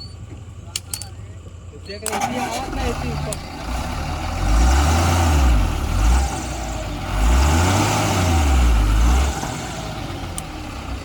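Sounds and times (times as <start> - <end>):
heavy diesel engine revving: 2.0 - 11.0.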